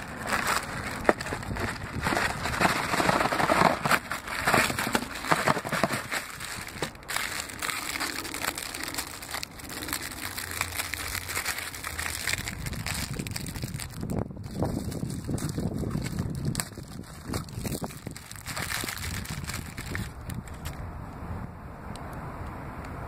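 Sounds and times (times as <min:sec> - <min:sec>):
plastic wrappers crinkling: 0:00.0 - 0:20.8.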